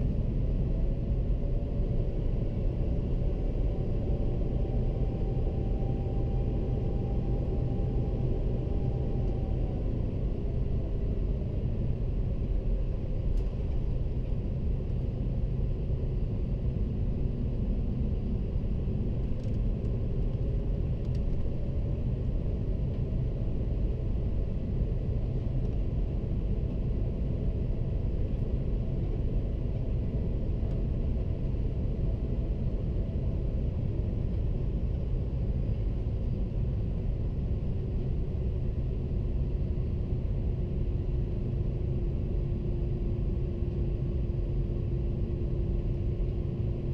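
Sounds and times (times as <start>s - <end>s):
jet engine and airflow rumble: 0.0s - 46.9s.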